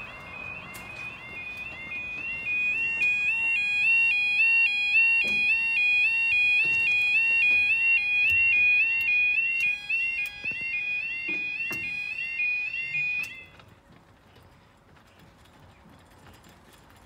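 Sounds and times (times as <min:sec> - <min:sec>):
level crossing alarm: 0:00.0 - 0:13.7.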